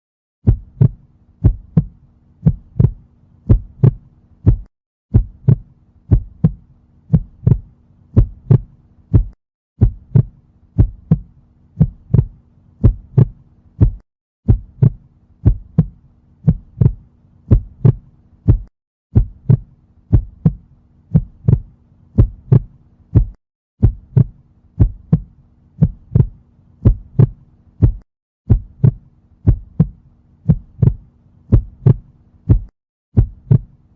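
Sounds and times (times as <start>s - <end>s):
heartbeat thumps: 0.4s - 33.7s.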